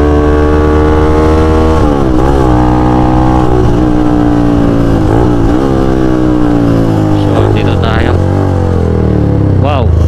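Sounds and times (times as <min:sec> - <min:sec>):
motorcycle engine running hard: 0:00.0 - 0:10.0.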